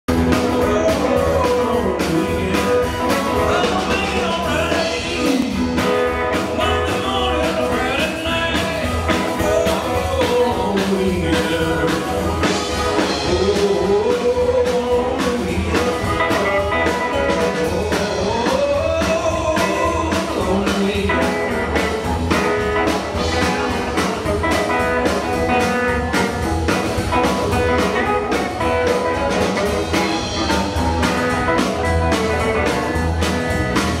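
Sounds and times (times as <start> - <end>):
electric bass: 0.0 - 34.0
drum kit beat: 0.1 - 34.0
electric guitar: 0.1 - 34.0.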